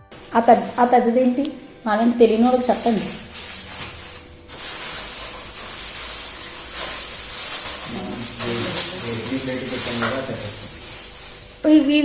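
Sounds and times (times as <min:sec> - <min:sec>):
gift packaging rustling and crinkling: 0:00.0 - 0:12.0.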